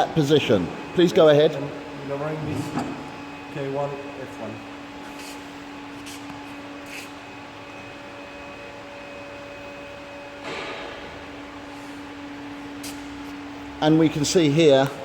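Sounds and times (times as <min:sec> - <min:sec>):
hydraulic lift humming: 0:00.0 - 0:14.2.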